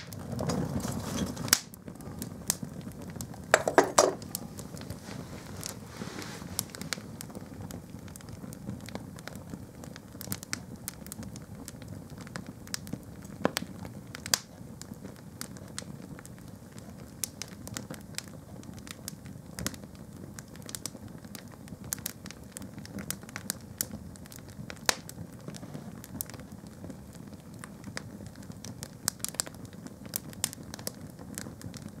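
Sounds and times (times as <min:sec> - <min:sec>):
fire crackling and popping: 0:00.0 - 0:32.0.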